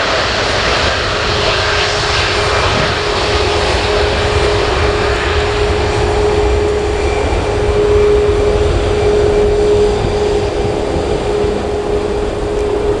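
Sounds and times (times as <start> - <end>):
jet engines running: 0.0 - 13.0
held engine tone: 0.4 - 13.0
continuous hiss: 2.2 - 13.0.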